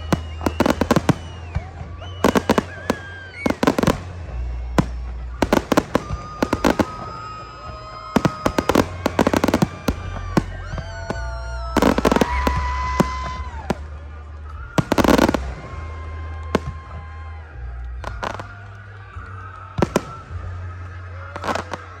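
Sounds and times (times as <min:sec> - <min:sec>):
fireworks bangs: 0:00.0 - 0:22.0
fireworks crackling: 0:00.0 - 0:22.0
fireworks whistling: 0:00.0 - 0:22.0.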